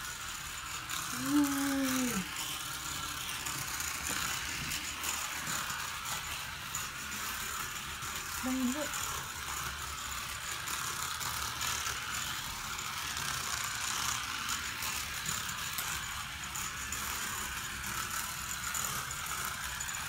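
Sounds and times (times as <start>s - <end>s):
toy car motor whirring: 0.0s - 20.0s.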